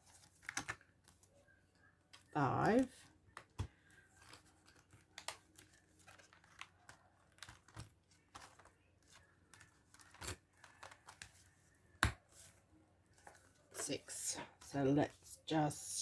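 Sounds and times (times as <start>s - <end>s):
paper envelopes rustling: 0.0s - 14.0s.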